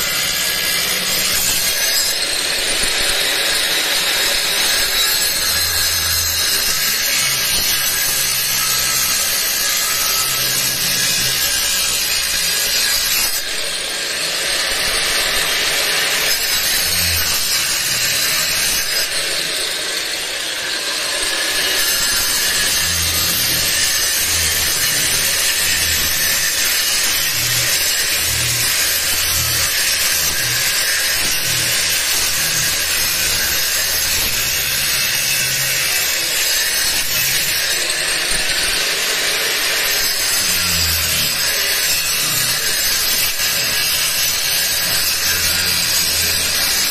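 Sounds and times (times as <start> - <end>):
angle grinder grinding wall: 0.0 - 46.9.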